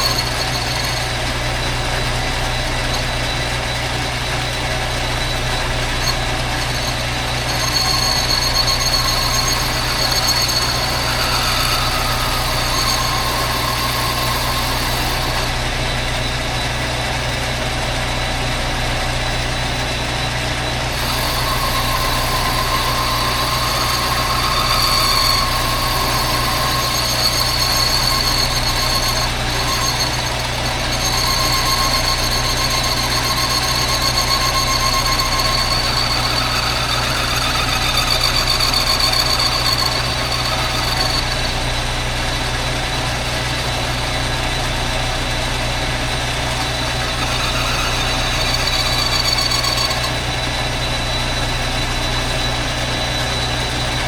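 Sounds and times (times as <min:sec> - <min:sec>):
high-pitched cutting squeal: 0:00.0 - 0:17.1, 0:19.8 - 0:54.0
metal lathe humming: 0:00.0 - 0:54.0.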